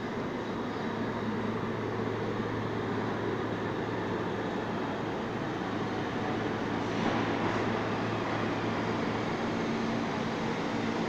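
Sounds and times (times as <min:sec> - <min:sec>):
subway station rumble: 0:00.0 - 0:11.0
train approaching through tunnel: 0:00.0 - 0:11.0.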